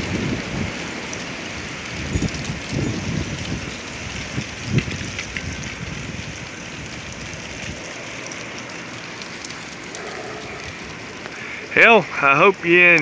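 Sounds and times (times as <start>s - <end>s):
strong gusting wind: 0.0s - 13.0s
wind buffeting microphone: 0.0s - 13.0s.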